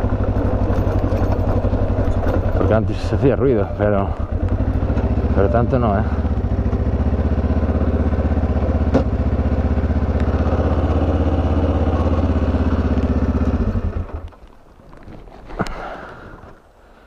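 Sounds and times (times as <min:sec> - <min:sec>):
motorcycle engine idling: 0:00.0 - 0:14.3.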